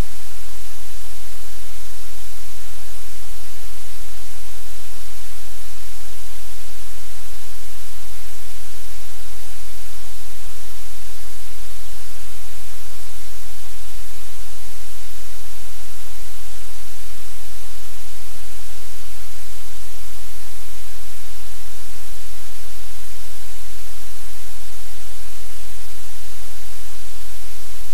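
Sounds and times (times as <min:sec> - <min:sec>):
loud static hiss: 0:00.0 - 0:27.9.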